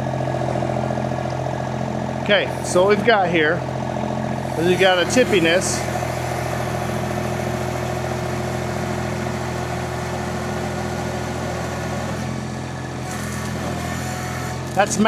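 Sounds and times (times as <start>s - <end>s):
skid steer engine under load: 0.0s - 15.0s.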